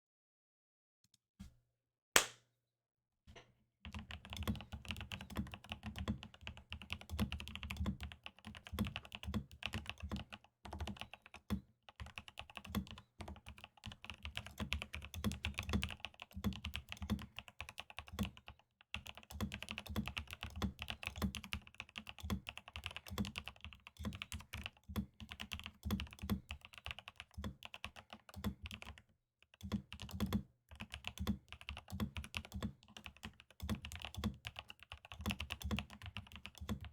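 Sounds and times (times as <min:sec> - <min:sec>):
mechanical keyboard typing: 0:03.9 - 0:36.9.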